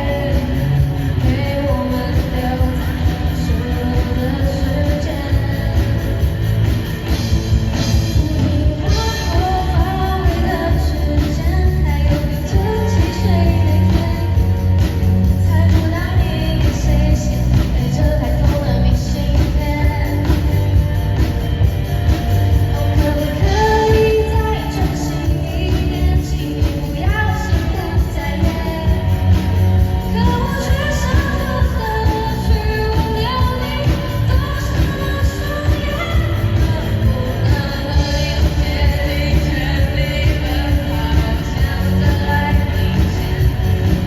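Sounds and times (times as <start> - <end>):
person singing: 0.0 - 44.0
pop-rock band playing: 0.0 - 44.0.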